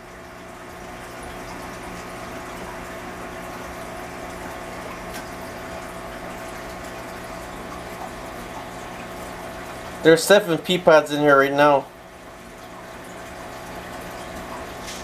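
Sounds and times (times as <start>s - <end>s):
water bubbling in fish tank: 0.0s - 15.0s.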